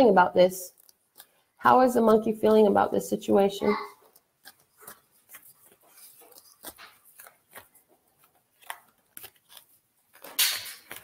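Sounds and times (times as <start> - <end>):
cards being shuffled: 0.7 - 2.6, 3.4 - 11.0.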